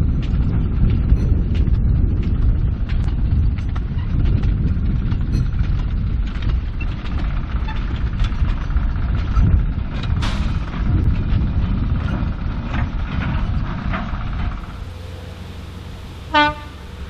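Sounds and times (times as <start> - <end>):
train clicks and knocks on track: 0.0 - 14.9
locomotive engine rumble: 0.0 - 17.0.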